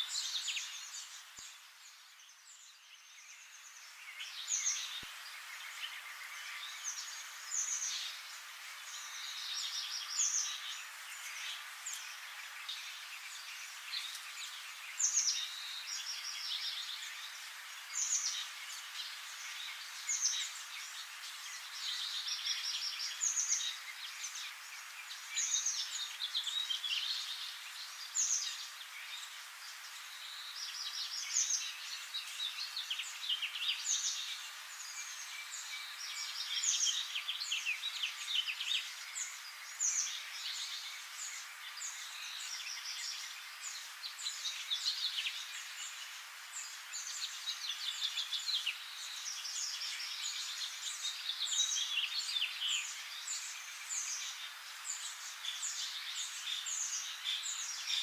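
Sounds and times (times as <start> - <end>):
background birds calling: 0.0 - 58.0.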